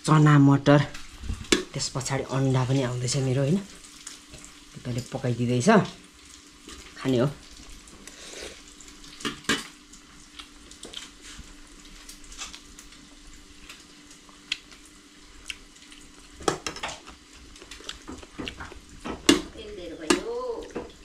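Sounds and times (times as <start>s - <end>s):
egg frying in oil: 0.8s - 21.0s.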